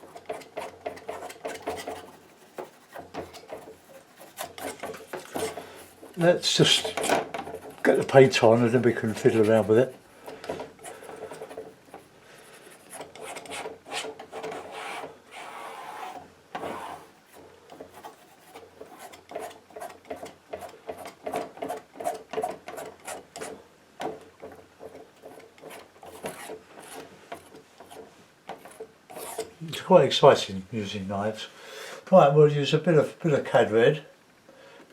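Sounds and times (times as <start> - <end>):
painting knife scraping paint: 0.0 - 23.6, 24.8 - 29.6.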